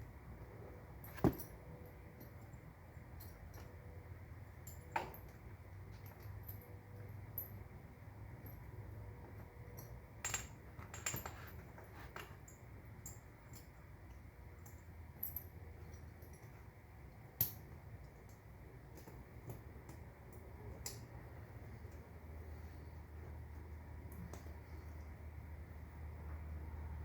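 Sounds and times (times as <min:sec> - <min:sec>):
metal tire chain clinking: 0:00.0 - 0:25.6
low steady hum: 0:00.0 - 0:27.0.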